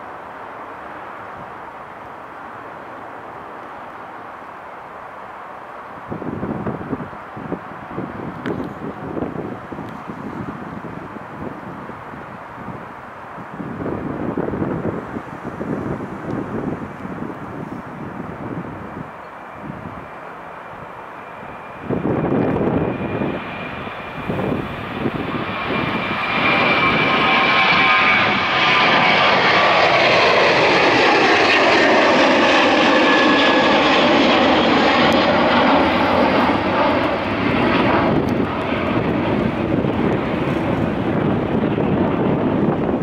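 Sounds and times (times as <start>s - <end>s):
jet engines at takeoff: 0.0s - 43.0s.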